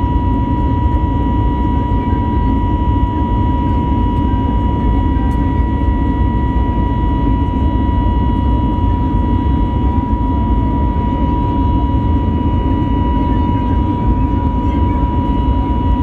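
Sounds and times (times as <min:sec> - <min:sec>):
high-pitched engine whine: 0:00.0 - 0:16.0
jet engine rumble: 0:00.0 - 0:16.0.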